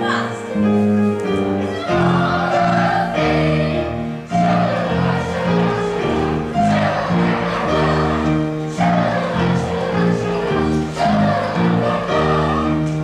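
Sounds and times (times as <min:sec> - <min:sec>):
musical accompaniment: 0:00.0 - 0:13.0
cast singing in chorus: 0:01.8 - 0:13.0.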